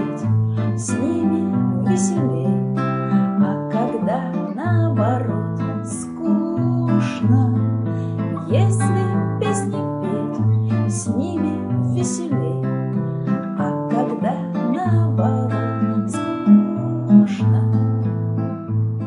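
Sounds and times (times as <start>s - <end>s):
classical guitar strummed: 0.0s - 19.0s.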